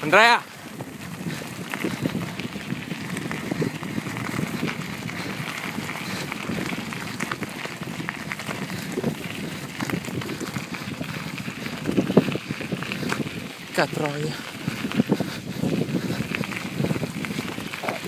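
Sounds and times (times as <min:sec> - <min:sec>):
bicycle tyres crunching on gravel: 0:00.0 - 0:18.0
bike rattling: 0:00.0 - 0:18.0.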